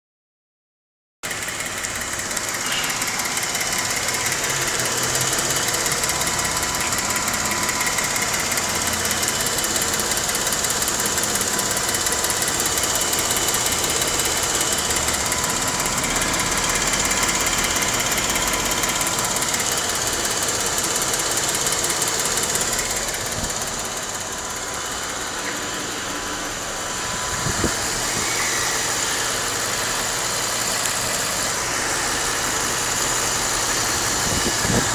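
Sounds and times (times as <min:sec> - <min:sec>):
car engine idling: 0:01.2 - 0:34.9
engine tick: 0:01.2 - 0:34.9.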